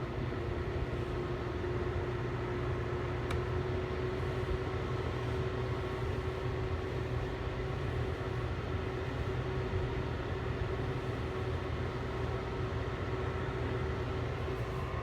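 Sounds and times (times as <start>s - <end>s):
heater fan humming: 0.0s - 15.0s.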